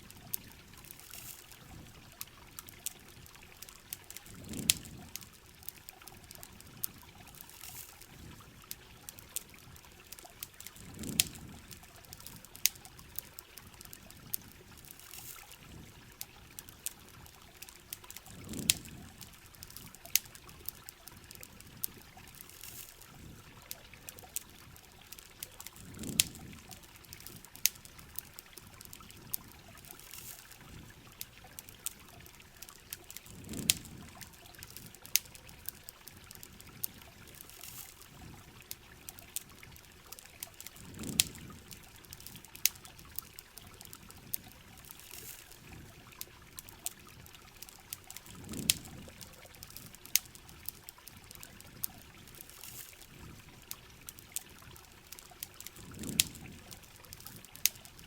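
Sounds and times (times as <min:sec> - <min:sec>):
campfire crackling: 0:00.0 - 0:58.0
rain pattering: 0:00.0 - 0:58.0.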